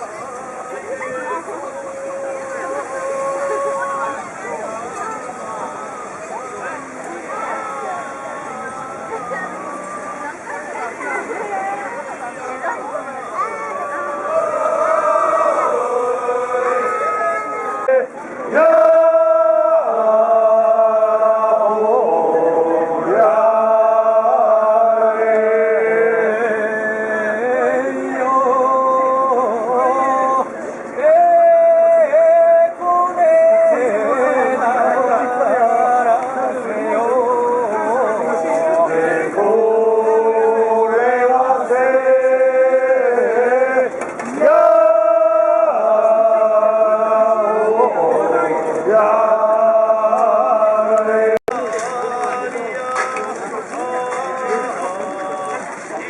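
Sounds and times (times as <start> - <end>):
chanting in held notes: 0.0 - 55.8.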